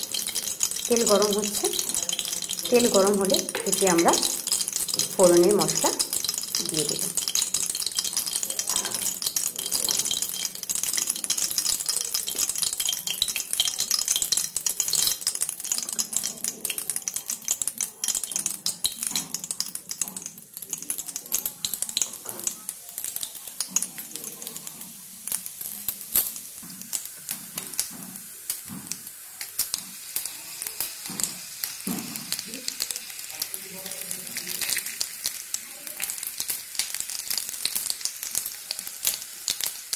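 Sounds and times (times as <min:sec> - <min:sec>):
hot oil crackling and spitting: 0:00.0 - 0:39.9.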